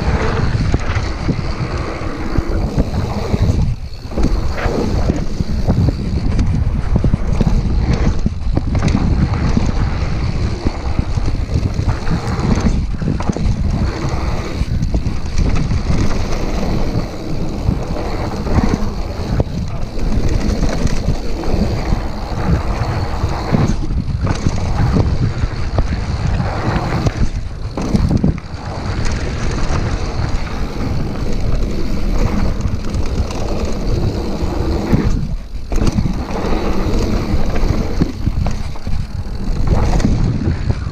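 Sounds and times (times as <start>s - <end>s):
tyres rolling over dirt trail: 0.0s - 40.9s
wind buffeting microphone: 0.0s - 40.9s.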